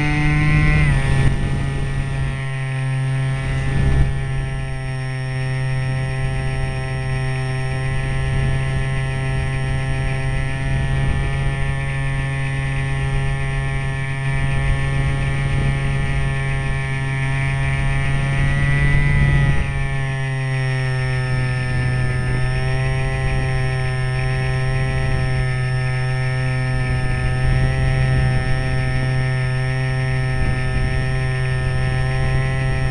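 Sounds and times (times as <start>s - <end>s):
rushing wind noise: 0.0s - 5.0s, 5.7s - 20.2s, 21.1s - 32.9s
model plane motor droning: 0.0s - 32.9s.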